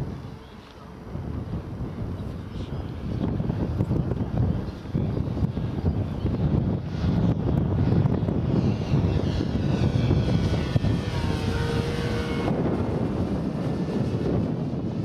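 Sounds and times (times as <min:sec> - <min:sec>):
model airplane engine passing: 0:00.0 - 0:15.0
wind rumble on microphone: 0:00.0 - 0:15.0.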